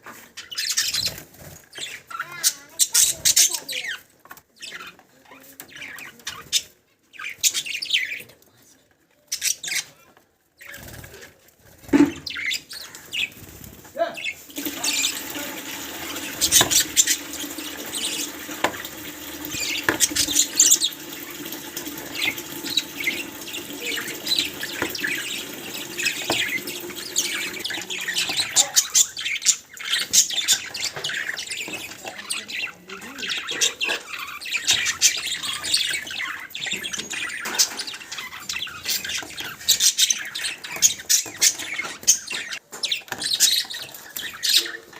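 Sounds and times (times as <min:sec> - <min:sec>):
budgerigars chirping: 0:00.4 - 0:04.0, 0:12.0 - 0:44.9.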